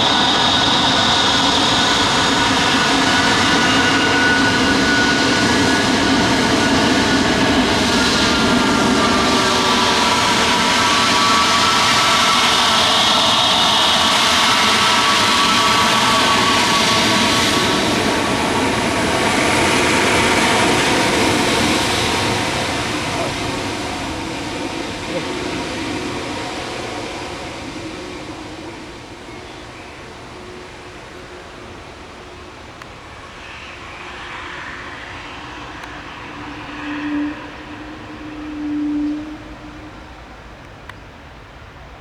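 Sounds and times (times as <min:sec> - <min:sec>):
jet engines rushing and whining: 0:00.0 - 0:42.0.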